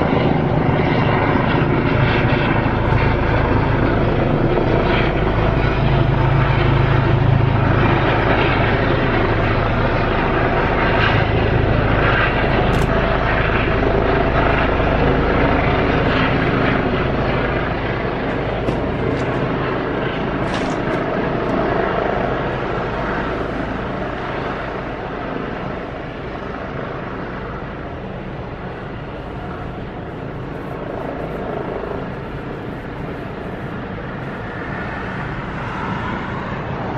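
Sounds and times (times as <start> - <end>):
helicopter rotor and turbine: 0.0 - 36.9.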